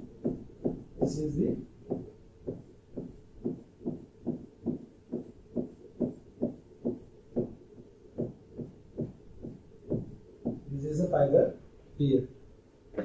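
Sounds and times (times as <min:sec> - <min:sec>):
pen knocking on display screen: 0:00.1 - 0:10.7.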